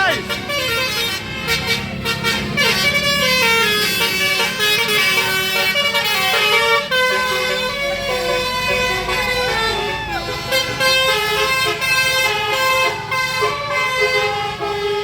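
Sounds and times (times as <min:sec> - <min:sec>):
multi-tone bus horn playing tune: 0:00.0 - 0:15.0.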